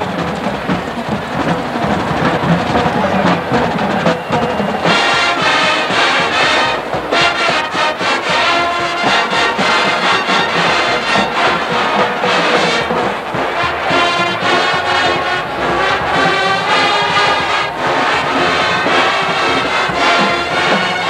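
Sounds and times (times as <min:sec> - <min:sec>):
brass section hits: 0:00.0 - 0:21.0
drums: 0:00.0 - 0:21.0
marching band playing: 0:00.0 - 0:21.0.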